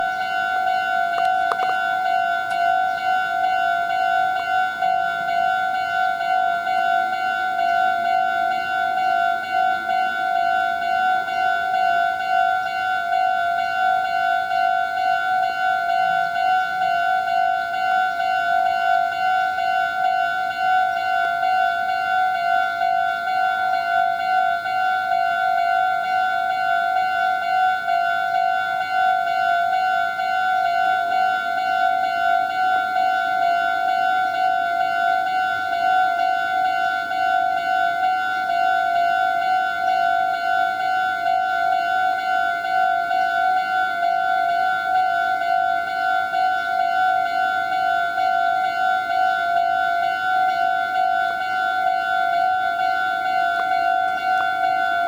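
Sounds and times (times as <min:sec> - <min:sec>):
level crossing warning bell ringing: 0:00.0 - 0:55.0.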